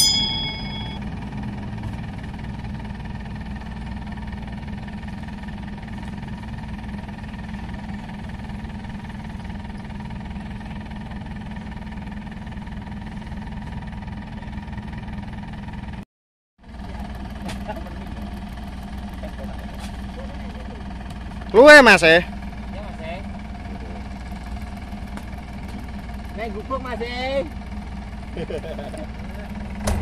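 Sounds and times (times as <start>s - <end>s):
combine harvester running: 0.0s - 16.0s, 16.6s - 30.0s.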